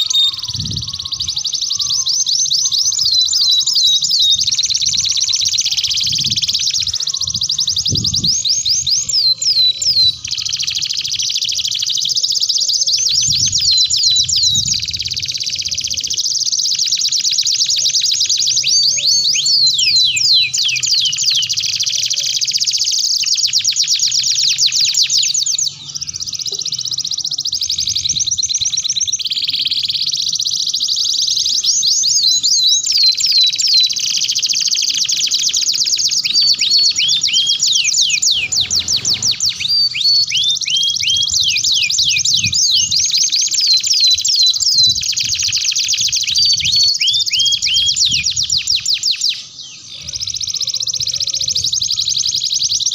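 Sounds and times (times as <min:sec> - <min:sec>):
canaries singing trills: 0:00.0 - 0:52.9.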